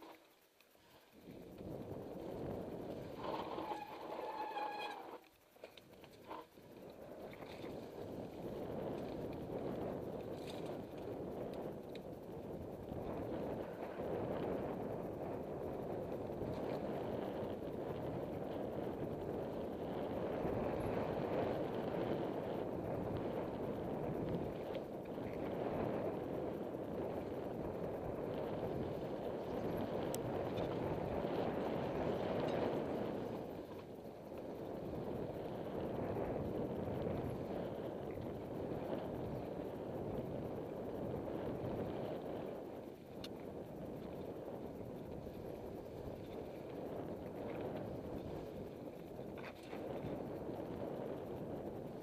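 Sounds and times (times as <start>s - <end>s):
bike tyre noise on dirt: 0.0s - 52.0s
wind rushing on microphone: 0.8s - 5.2s, 5.9s - 52.0s.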